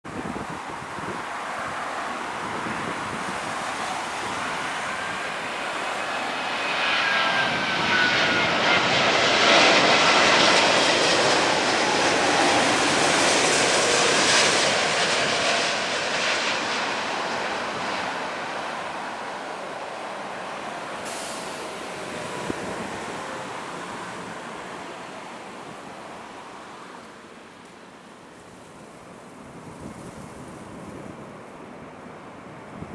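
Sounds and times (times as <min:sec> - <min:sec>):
jet engines roaring: 0:00.1 - 0:27.7
jet engine whine: 0:00.1 - 0:30.0.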